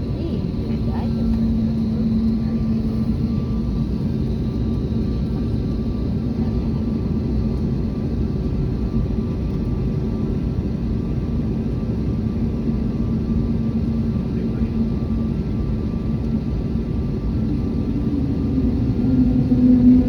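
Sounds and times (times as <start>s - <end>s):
jet aircraft rumble: 0.0s - 20.0s.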